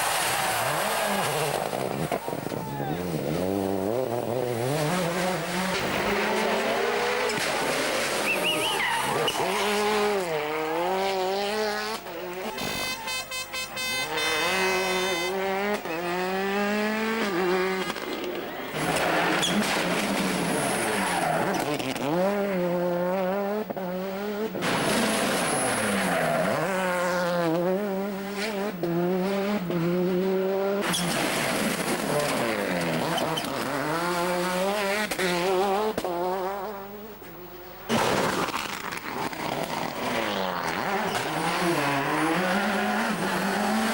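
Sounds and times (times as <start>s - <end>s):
rally car engines revving: 0.0s - 43.9s.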